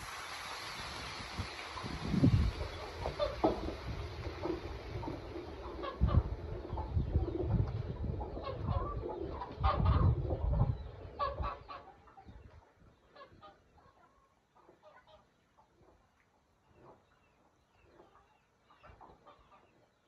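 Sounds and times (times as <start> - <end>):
chickens clucking: 1.6 - 16.0, 17.8 - 19.9.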